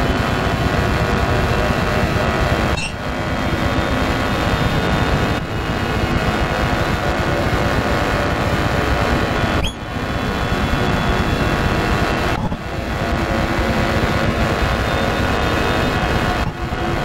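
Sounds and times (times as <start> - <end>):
dense electronic drone: 0.0 - 17.0
sustained electronic tones: 0.0 - 17.0.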